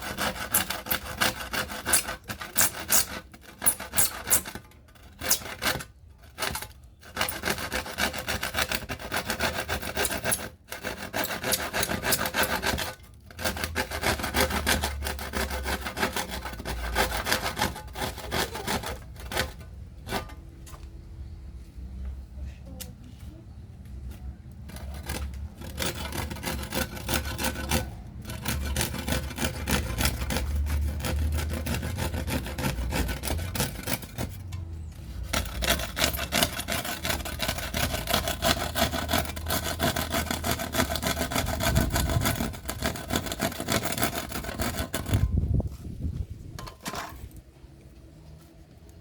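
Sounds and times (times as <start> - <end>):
rasping strokes on hard material: 0.0 - 20.5, 24.2 - 46.0.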